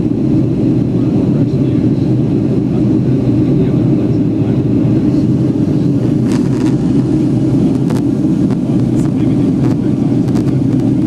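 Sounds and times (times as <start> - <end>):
airplane cabin engine drone: 0.0 - 11.0.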